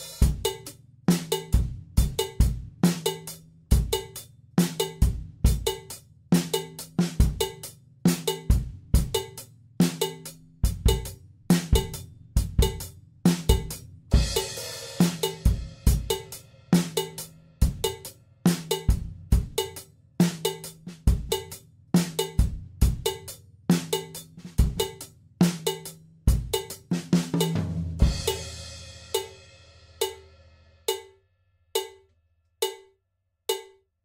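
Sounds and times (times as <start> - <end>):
drum kit groove: 0.0 - 31.2, 31.8 - 32.9, 33.5 - 33.8.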